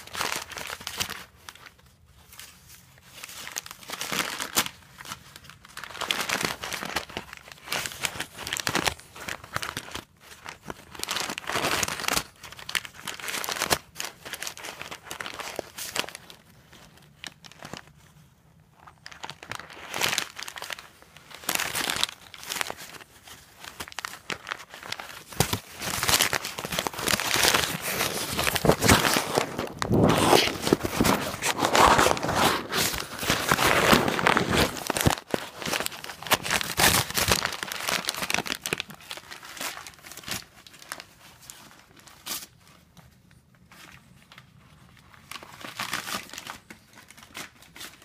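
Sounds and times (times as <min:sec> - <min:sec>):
tissue paper crinkling and tearing: 0:00.0 - 0:48.0.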